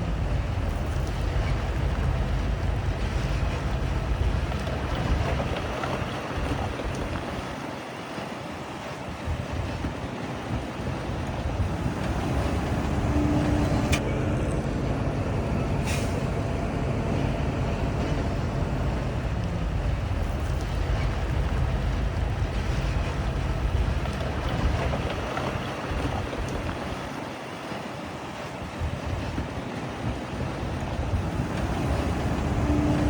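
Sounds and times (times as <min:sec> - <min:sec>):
heavy machinery diesel engine rumbling: 0:00.0 - 0:33.0.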